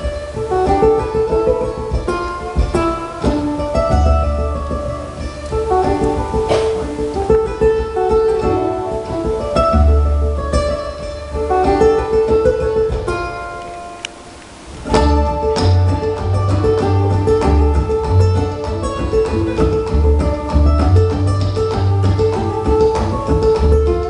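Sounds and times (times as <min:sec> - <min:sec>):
low cello notes: 0:00.0 - 0:24.0
plucked ukulele notes: 0:00.0 - 0:24.0.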